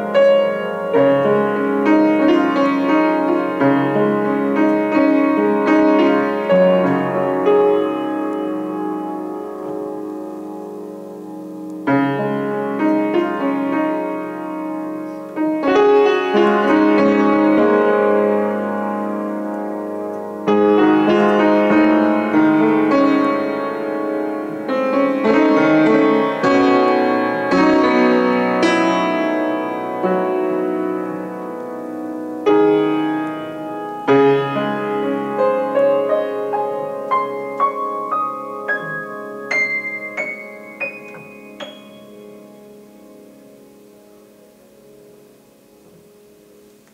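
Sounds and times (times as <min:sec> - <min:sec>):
piano chords and notes: 0:00.0 - 0:46.9.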